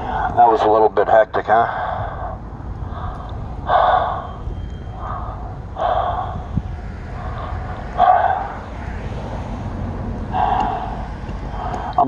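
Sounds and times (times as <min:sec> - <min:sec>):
man breathing hard: 0:01.6 - 0:12.0.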